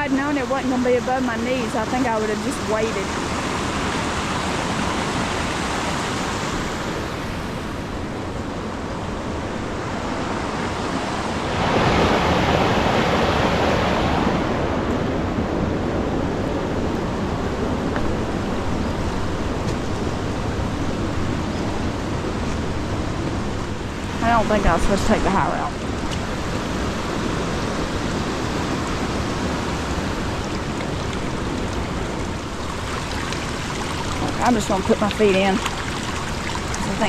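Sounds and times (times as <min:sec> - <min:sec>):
river water rushing: 0:00.0 - 0:37.0.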